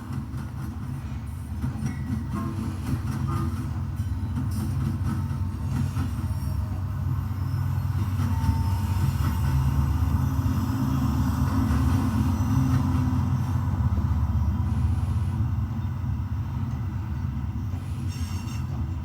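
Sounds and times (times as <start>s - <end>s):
model train rumbling on track: 0.0s - 19.0s.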